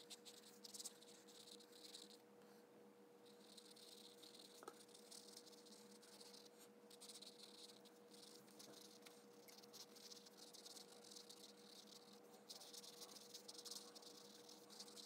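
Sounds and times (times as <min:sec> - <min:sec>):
pen scratching on paper: 0:00.0 - 0:02.2, 0:03.3 - 0:15.0
faint steady hum: 0:00.0 - 0:15.0.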